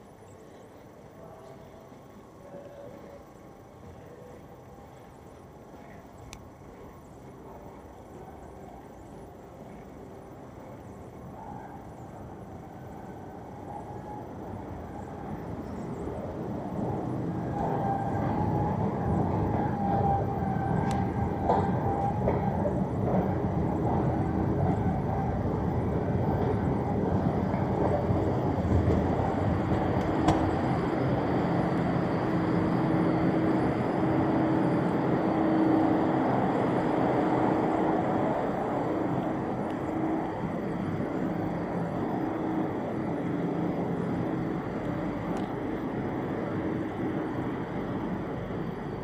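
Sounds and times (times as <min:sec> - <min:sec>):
faint steady tone: 0:00.0 - 0:49.0
machinery hum and rumble: 0:00.0 - 0:49.0.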